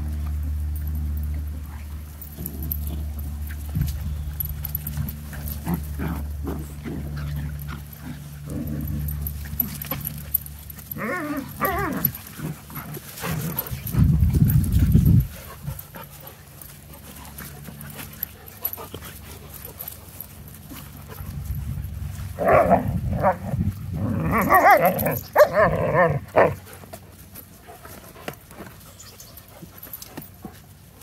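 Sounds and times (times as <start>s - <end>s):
puppies playing on grass: 0.0s - 31.0s.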